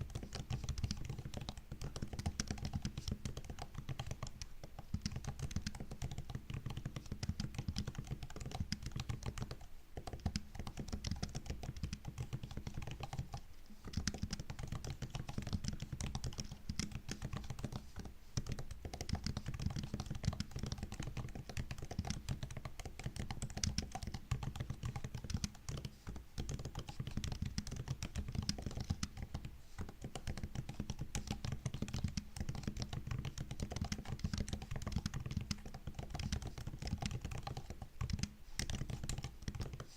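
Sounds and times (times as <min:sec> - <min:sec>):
laptop keyboard typing: 0:00.0 - 0:39.9.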